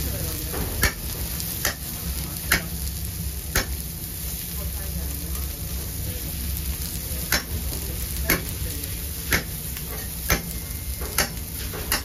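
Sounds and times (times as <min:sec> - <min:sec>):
fish sizzling on a grill: 0:00.0 - 0:12.0.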